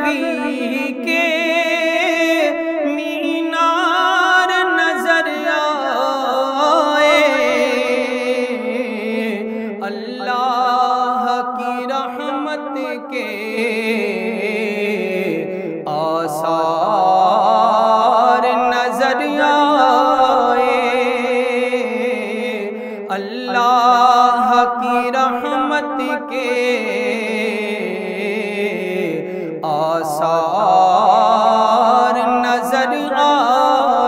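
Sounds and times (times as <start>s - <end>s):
man singing unaccompanied: 0.0s - 34.0s.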